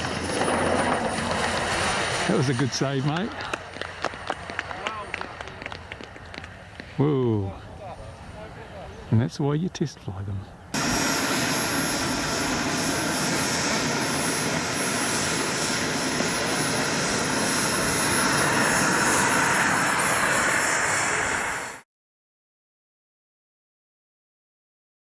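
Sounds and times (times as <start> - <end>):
jet turbine engine whine: 0.0 - 9.0, 10.6 - 21.8.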